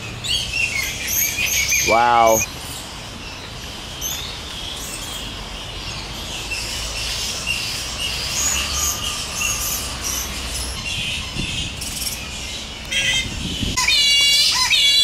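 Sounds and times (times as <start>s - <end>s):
flying foxes squawking and chirping: 0.0s - 15.0s.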